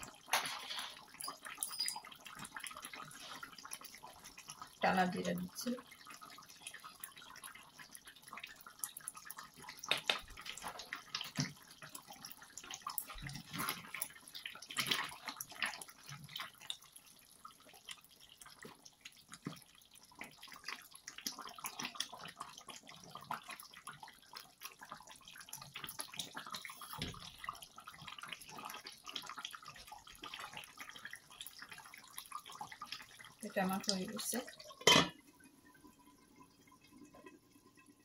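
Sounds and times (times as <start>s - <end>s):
curry bubbling in a pan: 0.0s - 38.0s.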